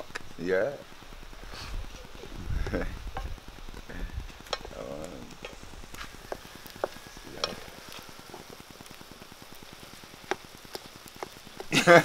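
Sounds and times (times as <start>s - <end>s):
eggs sizzling in a skillet: 0.0s - 12.0s.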